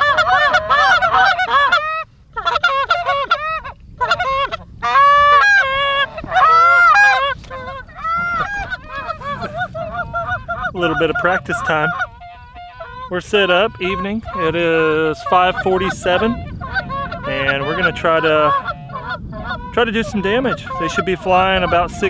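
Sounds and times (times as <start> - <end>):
goose call honks and clucks: 0.0 - 22.0.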